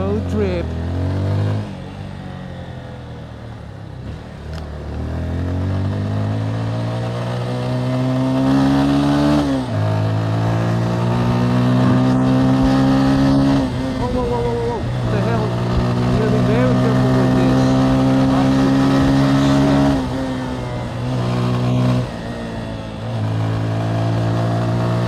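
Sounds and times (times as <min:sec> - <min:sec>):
motorcycle engine revving: 0:00.0 - 0:25.0
wind and road noise: 0:00.0 - 0:25.0.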